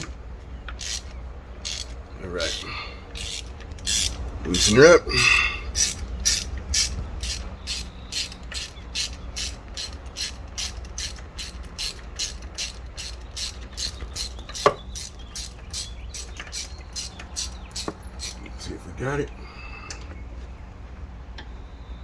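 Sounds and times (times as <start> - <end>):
ratchet wrench clicking: 0.8 - 18.5.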